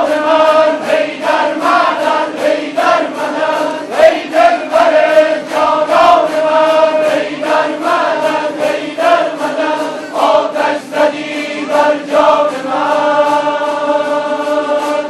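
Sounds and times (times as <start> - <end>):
strummed lutes: 0.0 - 15.0
voices chanting in unison: 0.0 - 15.0.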